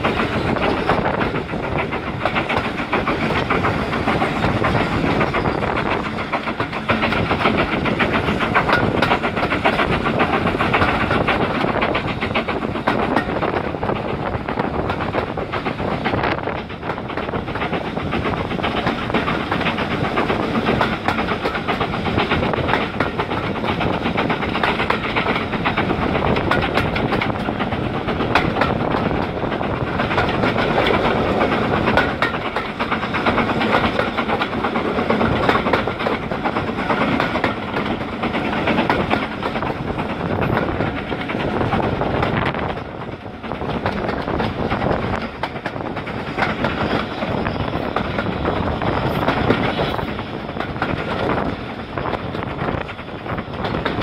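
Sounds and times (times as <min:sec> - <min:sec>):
train wheels clicking on rails: 0:00.0 - 0:54.0.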